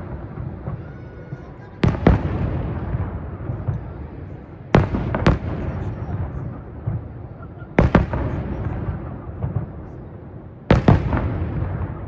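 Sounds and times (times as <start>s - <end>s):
fireworks bursting bangs: 0.0s - 12.0s
rolling echo rumble: 0.0s - 12.0s.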